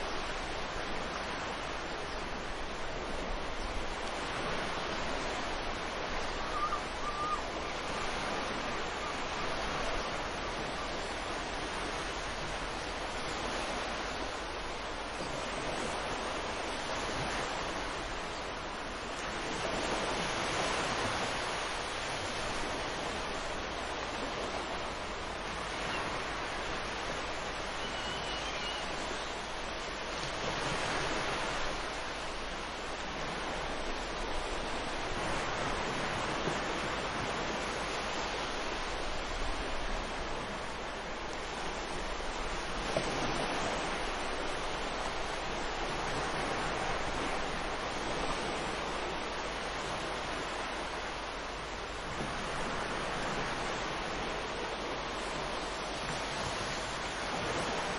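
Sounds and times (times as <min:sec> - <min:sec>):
ocean waves breaking: 0:00.0 - 0:57.9.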